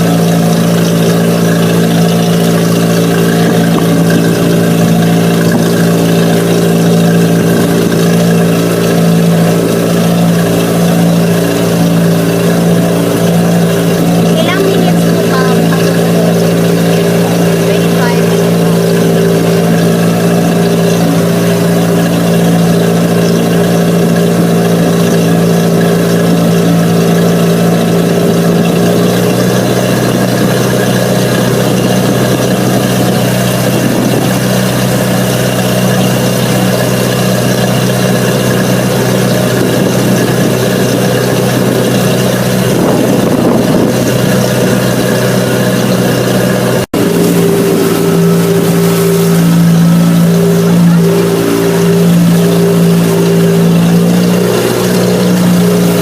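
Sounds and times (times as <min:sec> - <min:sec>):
motorboat engine droning: 0:00.0 - 0:56.0.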